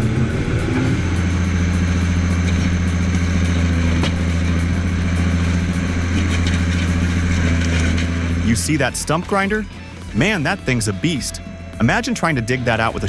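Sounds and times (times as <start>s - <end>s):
stump grinder engine humming: 0.0s - 13.0s.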